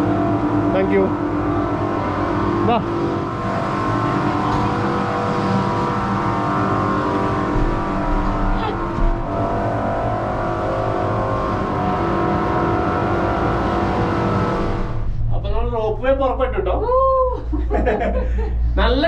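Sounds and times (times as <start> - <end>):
cable car machinery humming: 0.0 - 15.7.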